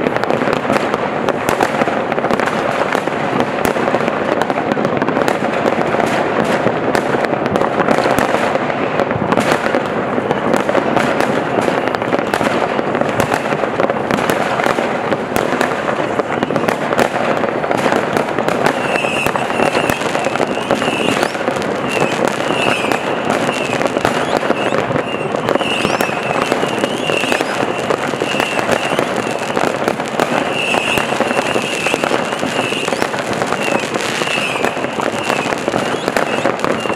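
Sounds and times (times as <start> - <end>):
fireworks crackling and banging: 0.0 - 36.9.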